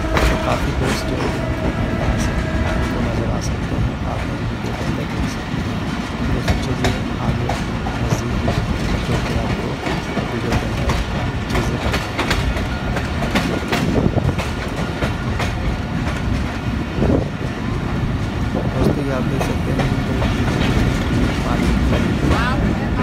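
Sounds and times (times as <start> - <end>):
wheels clicking over rail joints: 0.0 - 22.8
train rumble: 0.0 - 23.0.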